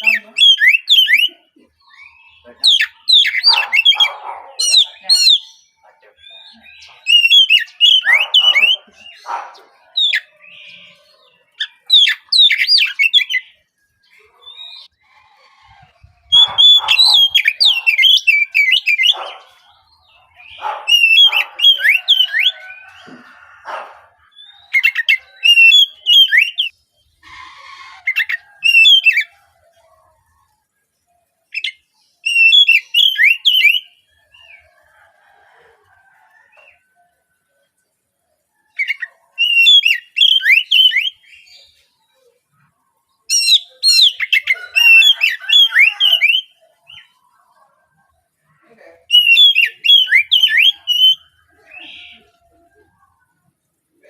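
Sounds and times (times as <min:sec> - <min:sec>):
bird singing rapid chirps: 0:00.0 - 0:29.4, 0:31.4 - 0:34.7, 0:38.7 - 0:47.4, 0:48.4 - 0:52.4.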